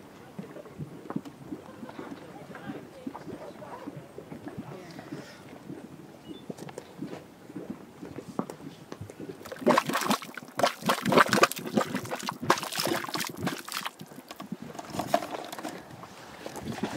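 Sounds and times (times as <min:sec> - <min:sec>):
mud bubbling and plopping: 0:00.0 - 0:16.9.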